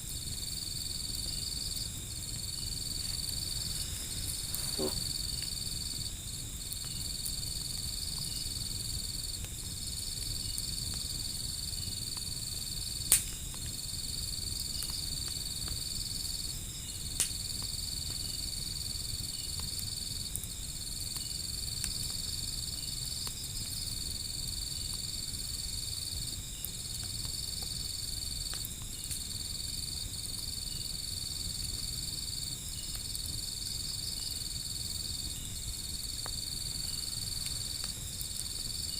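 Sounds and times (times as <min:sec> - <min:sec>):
insects trilling: 0:00.0 - 0:38.9
wood fire popping: 0:00.0 - 0:38.9.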